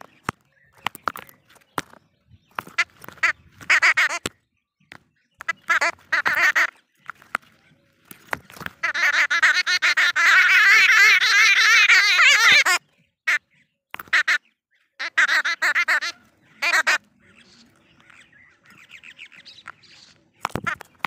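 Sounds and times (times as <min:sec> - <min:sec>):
bird chattering calls: 0:00.0 - 0:21.0.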